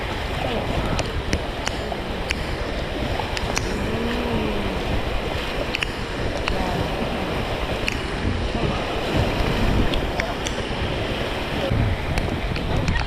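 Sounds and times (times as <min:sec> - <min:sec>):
river rapids rushing: 0:00.0 - 0:13.0
wind buffeting microphone: 0:00.0 - 0:13.0.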